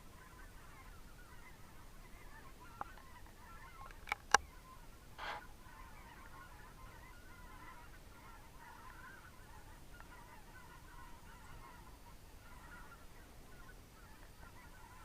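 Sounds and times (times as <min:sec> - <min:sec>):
distant geese honking: 0:00.0 - 0:15.0.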